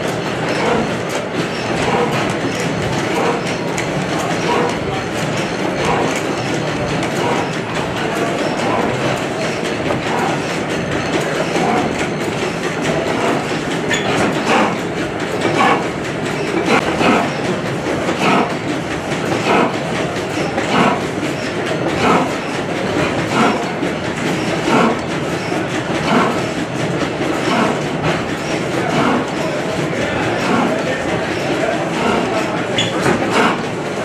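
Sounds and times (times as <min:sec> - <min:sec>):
gas engine clattering: 0:00.0 - 0:34.0.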